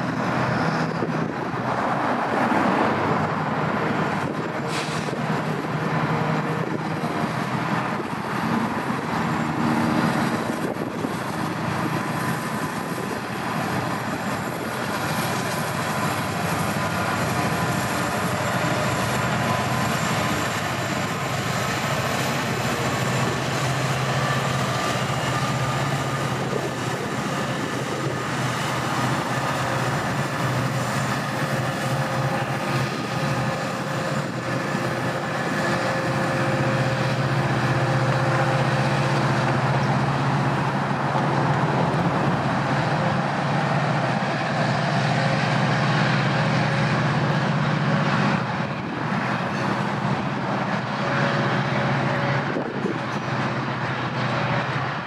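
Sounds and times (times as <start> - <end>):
diesel locomotive engines humming: 0.0 - 55.0
freight cars rumbling on rails: 0.0 - 55.0.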